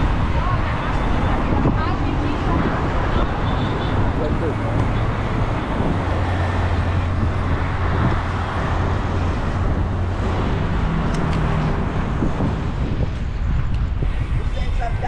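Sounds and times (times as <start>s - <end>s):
road traffic hum: 0.0s - 15.0s
tyre and road noise: 0.0s - 15.0s.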